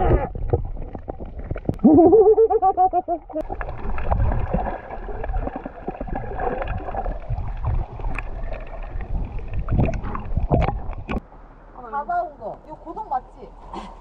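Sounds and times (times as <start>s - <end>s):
underwater water sloshing and gurgling: 0.0s - 11.7s.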